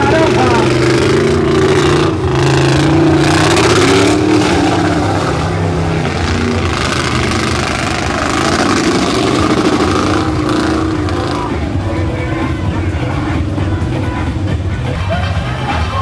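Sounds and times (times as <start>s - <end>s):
off-road racer engine revving: 0.0s - 16.0s.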